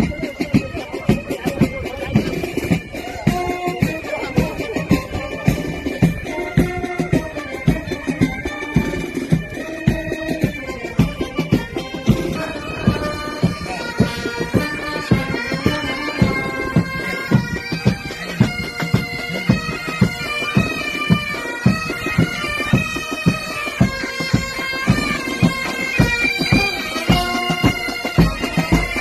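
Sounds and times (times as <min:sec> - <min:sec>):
bagpipes playing a melody: 0:00.0 - 0:29.0
steady drum beat: 0:00.0 - 0:29.0.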